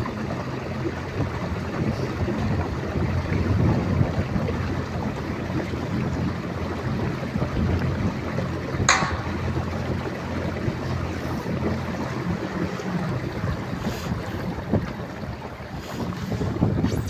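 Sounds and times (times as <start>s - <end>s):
vehicle engine hum: 0.0s - 17.0s
rushing wind: 0.6s - 17.0s.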